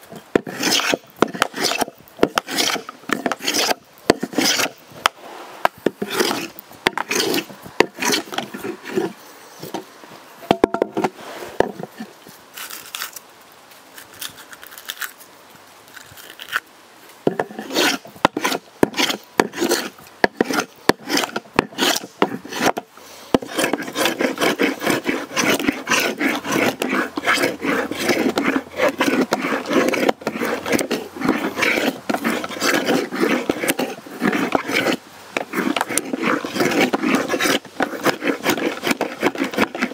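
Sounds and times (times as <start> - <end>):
hand tool rubbing wood: 0.1 - 9.8, 17.3 - 39.9.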